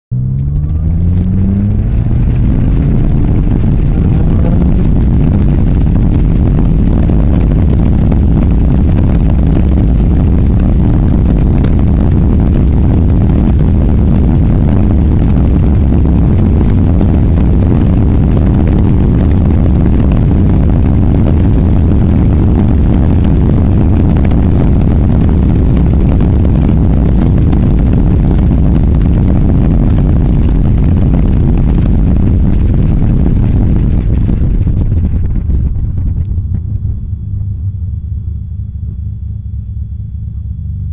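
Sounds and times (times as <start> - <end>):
wind buffeting microphone: 0.2 - 37.6.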